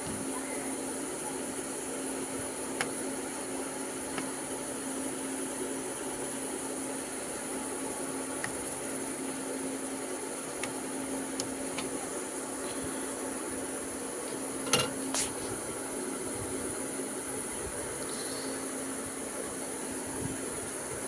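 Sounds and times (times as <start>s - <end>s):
constant low hum: 0.0s - 21.0s
steady hiss: 0.0s - 21.0s.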